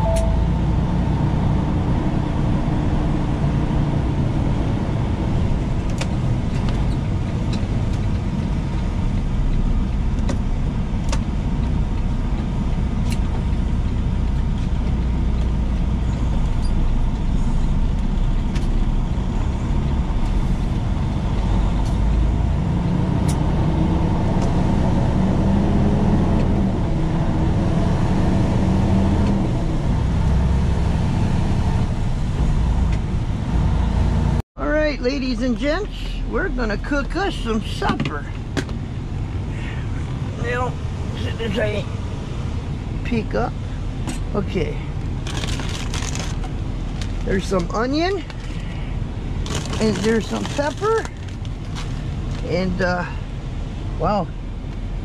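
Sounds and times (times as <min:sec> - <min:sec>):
road noise inside cab: 0:00.0 - 0:55.0
truck diesel engine: 0:00.0 - 0:55.0.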